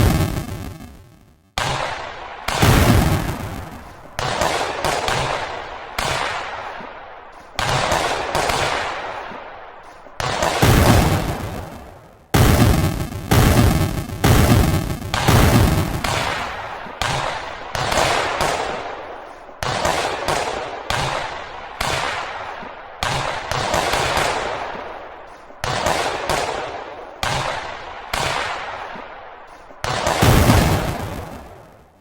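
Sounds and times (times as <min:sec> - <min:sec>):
firework bursts crackling: 0:00.0 - 0:32.0.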